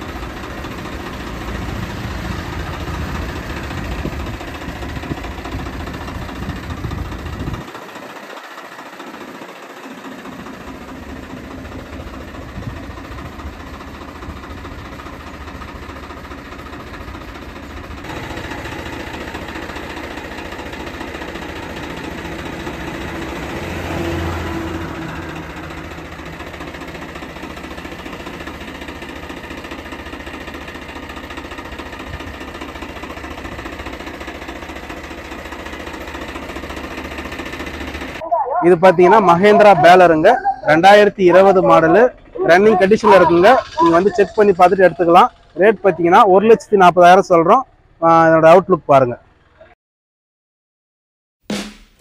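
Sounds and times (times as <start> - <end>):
diesel tractor engine idling: 0.0 - 49.7.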